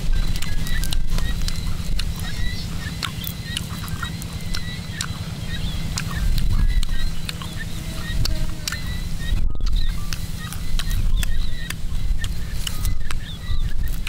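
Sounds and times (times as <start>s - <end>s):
chewing with clicks and crackles: 0.0s - 14.0s
low rumble: 0.0s - 14.0s.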